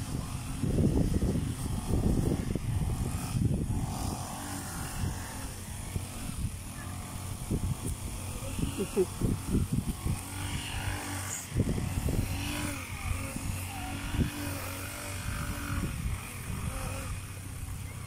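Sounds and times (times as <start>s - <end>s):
engine running: 0.0s - 18.0s
wind buffeting microphone: 0.0s - 18.0s.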